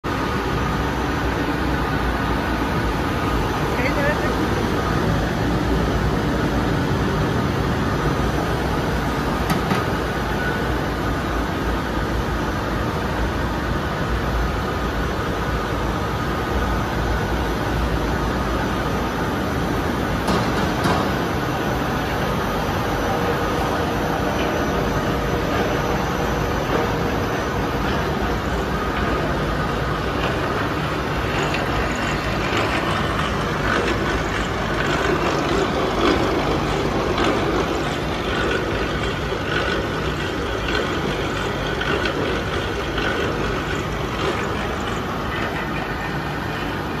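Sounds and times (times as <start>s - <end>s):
furnace machinery drone: 0.0s - 47.0s.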